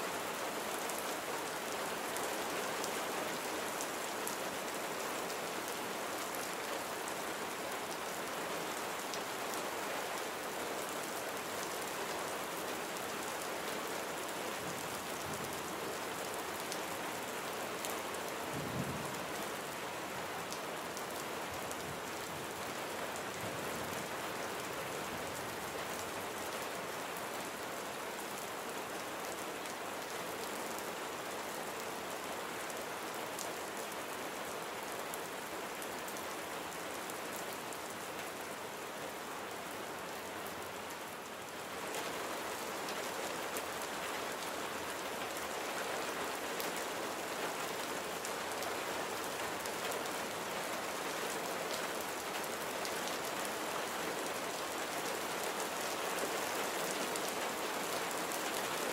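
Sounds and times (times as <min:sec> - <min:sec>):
rain pattering on surfaces: 0:00.1 - 0:58.9.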